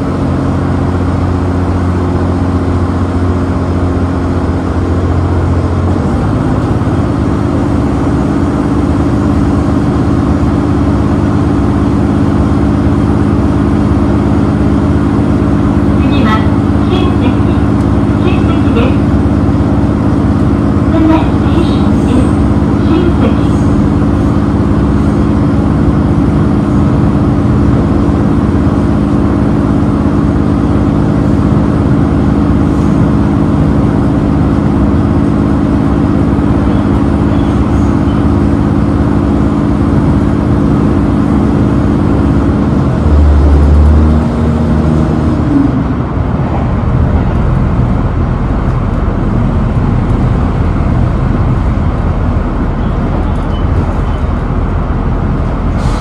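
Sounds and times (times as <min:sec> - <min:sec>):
diesel engine drone: 0:00.0 - 0:56.0
wheels running on rails: 0:01.2 - 0:55.8.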